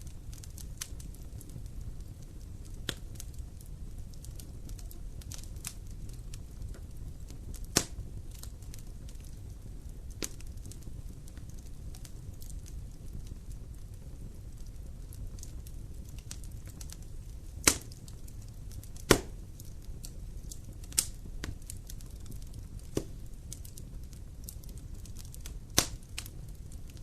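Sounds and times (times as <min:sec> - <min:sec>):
sharp fire pops: 0:00.0 - 0:27.0
wood fire rumbling and crackling: 0:00.0 - 0:27.0.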